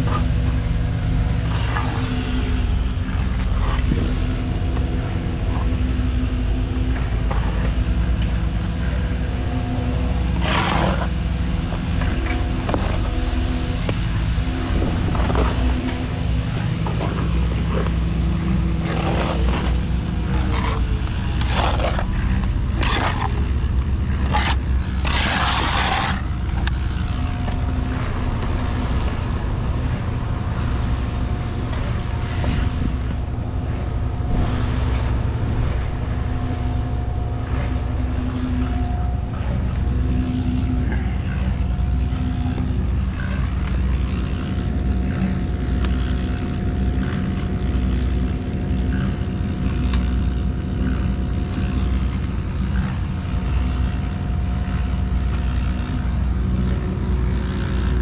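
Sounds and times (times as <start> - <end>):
loud machinery drone: 0.0 - 58.0.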